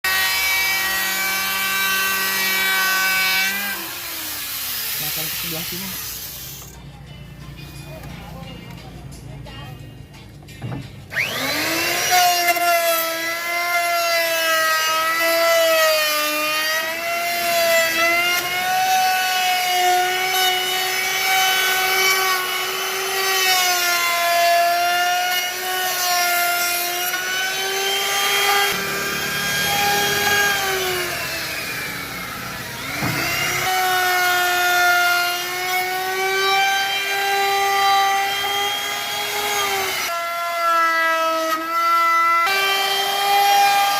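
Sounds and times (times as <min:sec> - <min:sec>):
power tool whining and cutting wood: 0:00.1 - 0:06.8, 0:10.6 - 0:43.9.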